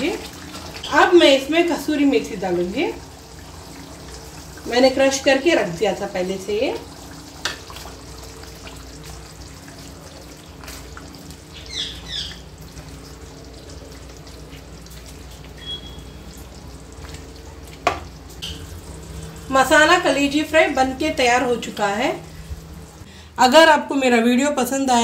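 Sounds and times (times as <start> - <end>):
steady low hum: 0.0 - 24.2
curry sizzling and bubbling: 0.0 - 25.0.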